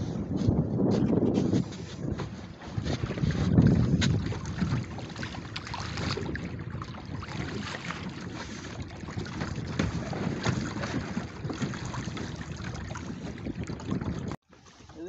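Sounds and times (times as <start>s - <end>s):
wind buffeting the microphone: 0.0s - 15.0s
wavelets splashing against a boat: 0.4s - 15.0s.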